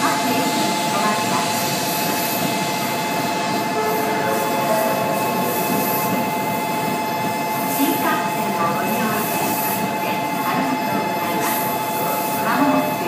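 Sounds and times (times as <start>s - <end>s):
train whine: 0.0s - 12.2s.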